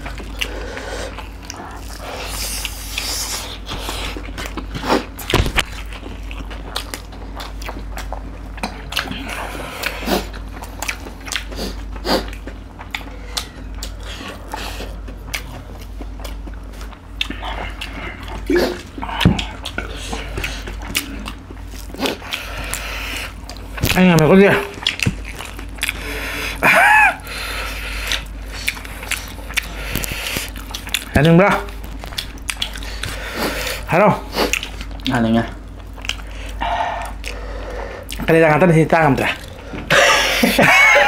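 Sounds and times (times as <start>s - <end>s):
steady low hum: 0.0s - 41.0s
wet chewing: 0.0s - 41.0s
lip smacking: 0.4s - 24.0s, 27.2s - 35.1s, 35.7s - 38.3s.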